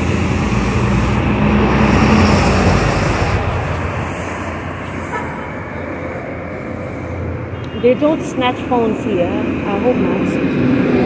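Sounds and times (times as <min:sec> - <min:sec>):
steady traffic noise: 0:00.0 - 0:11.0
vehicle engine passing: 0:00.0 - 0:11.0.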